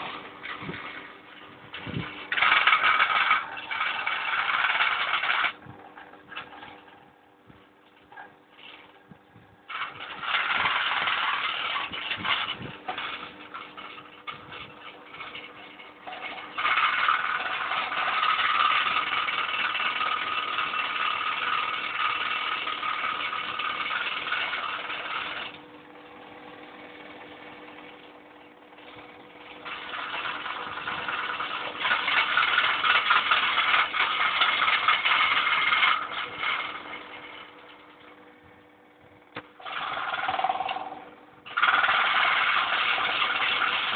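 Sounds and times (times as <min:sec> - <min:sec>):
small gear motors whirring: 0:00.0 - 0:06.9, 0:08.1 - 0:25.6, 0:28.8 - 0:38.0, 0:39.3 - 0:43.9.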